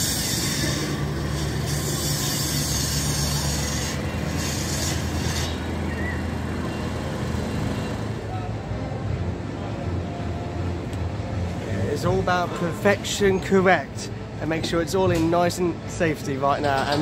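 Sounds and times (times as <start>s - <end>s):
diesel engine hum: 0.0s - 14.6s.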